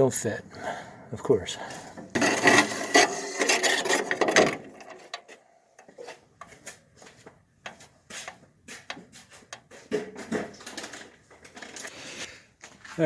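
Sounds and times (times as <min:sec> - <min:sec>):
car parts being handled: 0:01.7 - 0:12.3.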